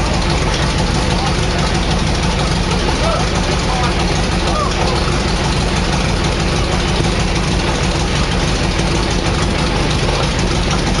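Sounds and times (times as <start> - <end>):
tank engine idling: 0.0 - 11.0.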